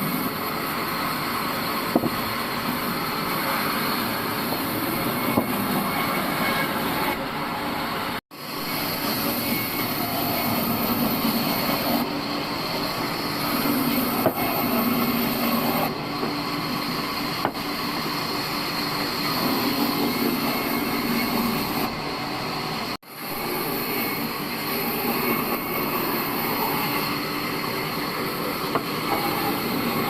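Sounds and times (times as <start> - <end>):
bandsaw sawmill running: 0.0 - 30.0.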